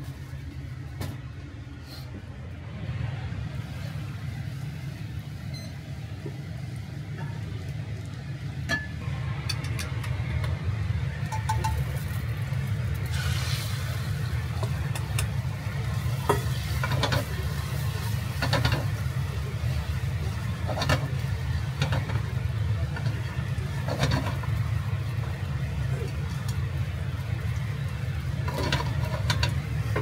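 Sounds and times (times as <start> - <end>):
exhaust duct and burner rumble: 0.0 - 30.0
hot oil sizzling: 3.5 - 30.0.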